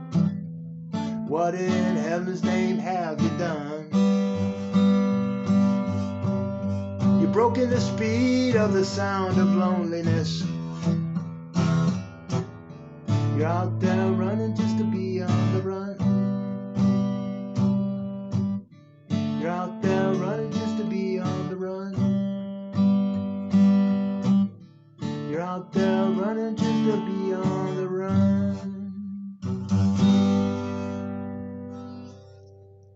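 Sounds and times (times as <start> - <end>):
acoustic guitar strumming: 0.0 - 32.9.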